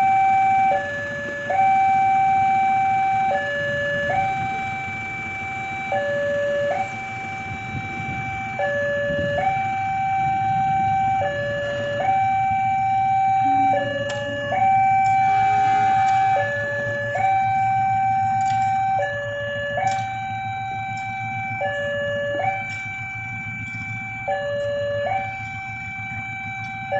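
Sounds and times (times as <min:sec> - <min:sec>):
level-crossing two-tone alarm: 0:00.0 - 0:26.9.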